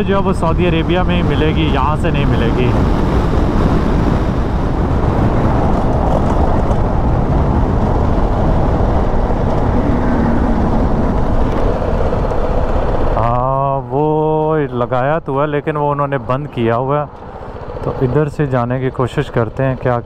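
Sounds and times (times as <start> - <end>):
motorcycle engine: 0.0 - 14.6, 16.8 - 18.9
wind rushing over microphone: 0.0 - 20.0.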